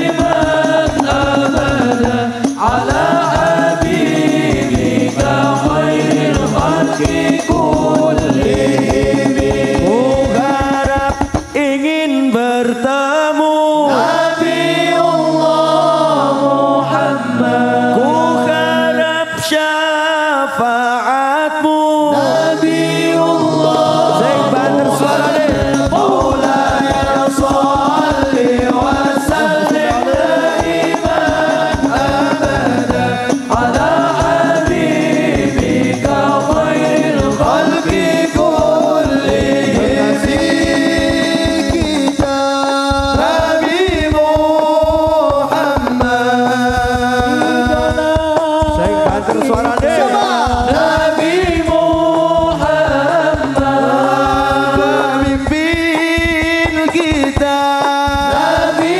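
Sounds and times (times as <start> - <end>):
low drum beat: 0.0 - 12.0, 22.2 - 58.9
men singing devotional chant: 0.0 - 58.9.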